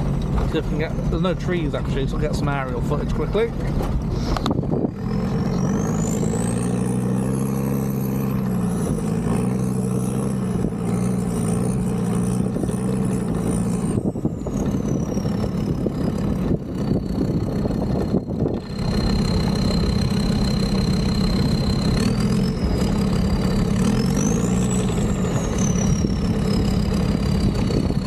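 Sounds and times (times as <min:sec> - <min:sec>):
diesel engine idling: 0:00.0 - 0:28.0
drone motors whining: 0:02.1 - 0:28.0.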